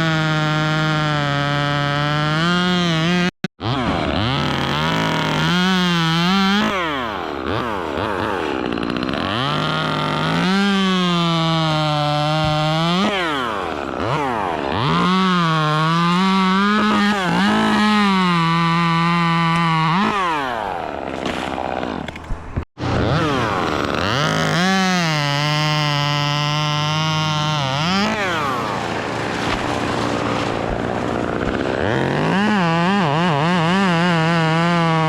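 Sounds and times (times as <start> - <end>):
chainsaw revving and cutting: 0.0 - 35.0.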